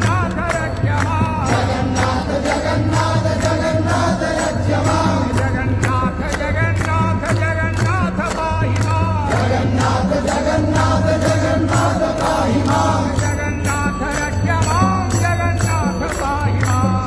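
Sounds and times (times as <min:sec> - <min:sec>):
voices singing chant-like melody: 0:00.0 - 0:15.2
steady percussion beat: 0:00.0 - 0:17.0.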